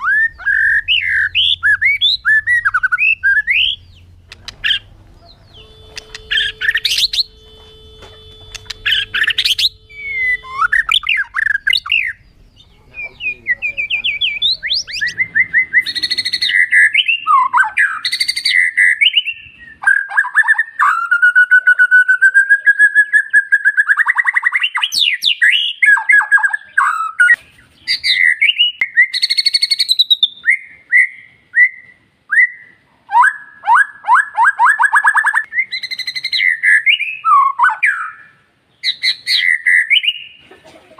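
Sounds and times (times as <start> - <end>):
bird singing whistles and trills: 0.0 - 40.4.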